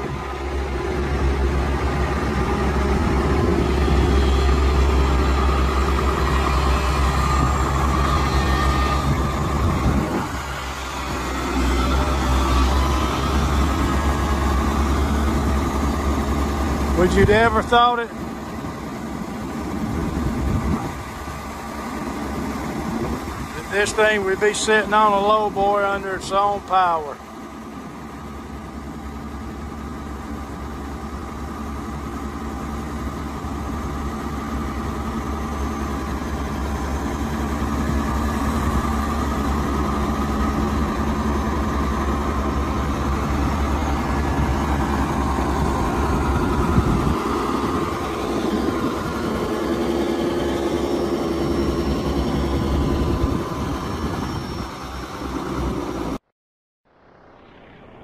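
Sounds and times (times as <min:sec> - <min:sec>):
diesel engine rumbling: 0:00.0 - 0:56.3.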